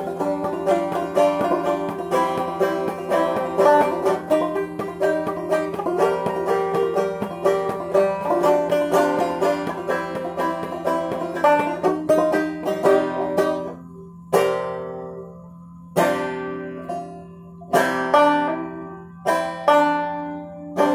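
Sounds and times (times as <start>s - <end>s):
banjo playing: 0.0s - 20.9s.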